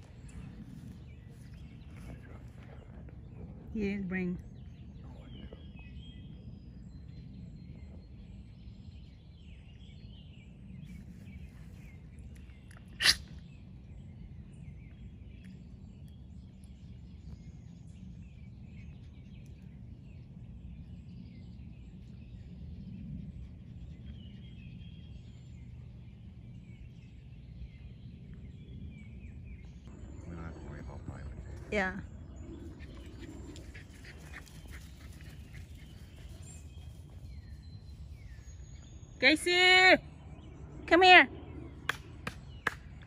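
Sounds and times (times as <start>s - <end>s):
birds chirping: 0.0s - 43.0s
low background rumble: 0.0s - 43.0s.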